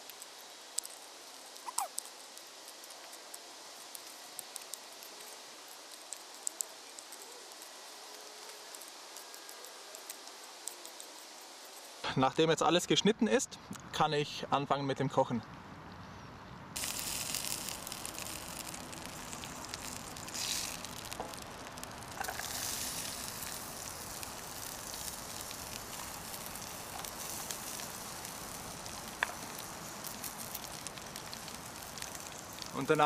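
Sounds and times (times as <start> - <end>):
butter sizzling in a pan: 0.0 - 12.0, 16.8 - 33.0
onion frying: 0.0 - 12.4, 16.8 - 33.0.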